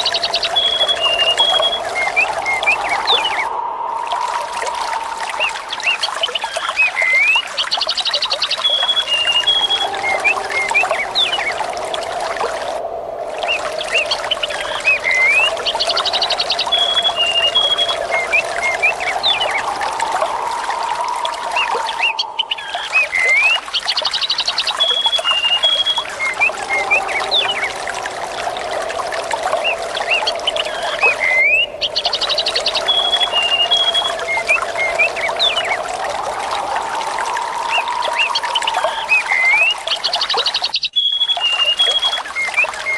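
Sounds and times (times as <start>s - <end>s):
birds chirping and whistling: 0.0s - 11.8s, 13.4s - 28.6s, 29.3s - 42.9s
running water trickling: 0.0s - 42.9s.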